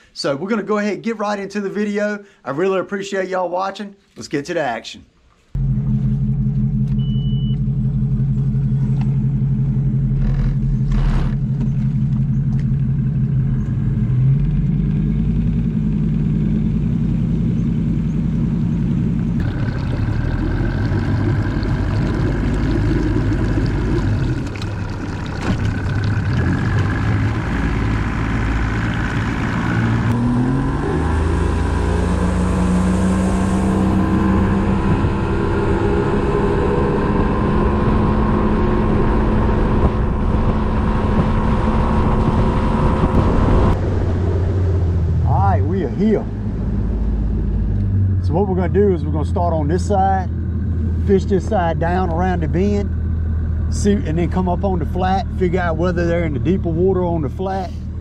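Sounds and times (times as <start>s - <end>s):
outboard motor running: 5.6s - 30.6s, 31.2s - 58.0s.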